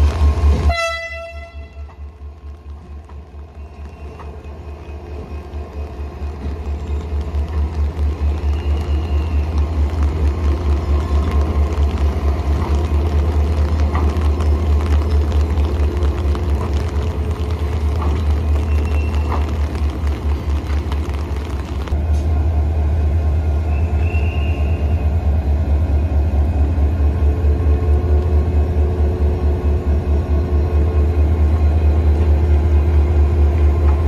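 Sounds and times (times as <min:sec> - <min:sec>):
diesel locomotive engine throbbing: 0:00.0 - 0:34.0.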